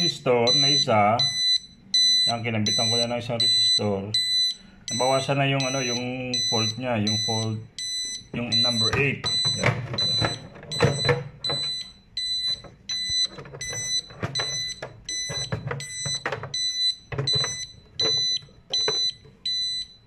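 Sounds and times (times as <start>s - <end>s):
high-pitched alarm panel beeping: 0.0s - 20.0s.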